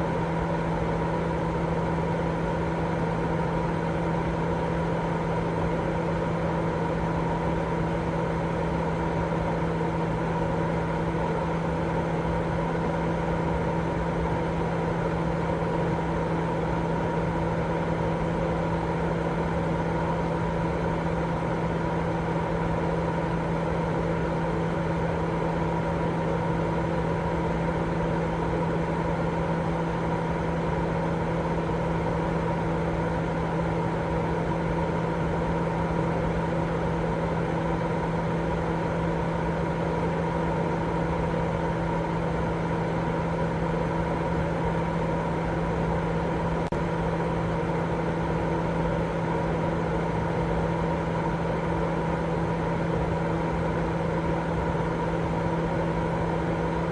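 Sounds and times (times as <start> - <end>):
steady white noise: 0.0 - 56.9.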